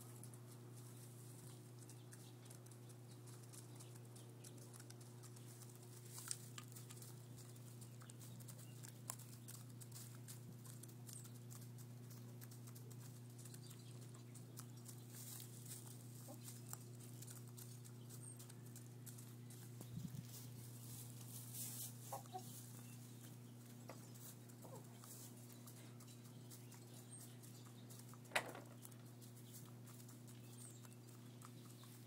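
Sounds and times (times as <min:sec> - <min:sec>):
hens pecking grain: 0:00.0 - 0:32.0
steady low hum: 0:00.0 - 0:32.0.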